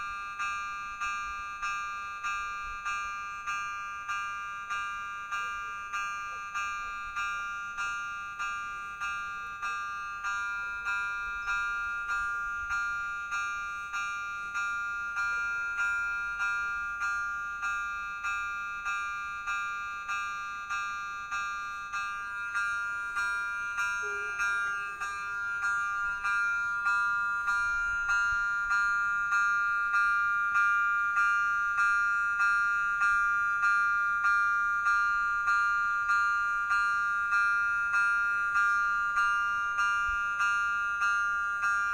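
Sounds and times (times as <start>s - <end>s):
level crossing warning bell: 0.0s - 41.9s.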